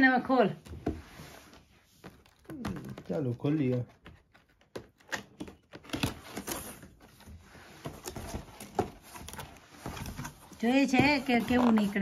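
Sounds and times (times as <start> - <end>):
cardboard flaps rustling and scraping: 0.7 - 12.0.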